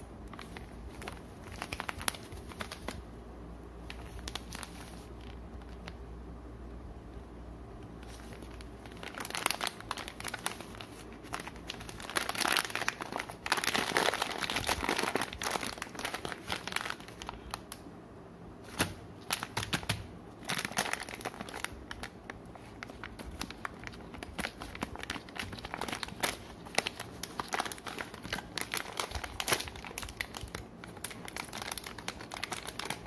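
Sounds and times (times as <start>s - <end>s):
plastic pouch crinkling: 0.3s - 3.1s, 3.8s - 6.0s, 8.0s - 17.8s, 18.6s - 33.0s.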